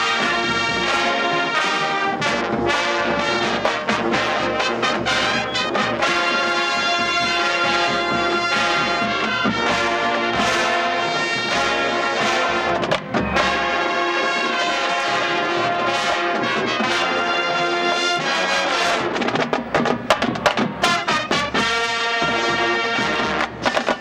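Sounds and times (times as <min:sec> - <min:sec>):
brass chords: 0:00.0 - 0:19.6, 0:20.5 - 0:23.9
drum line: 0:00.0 - 0:24.0.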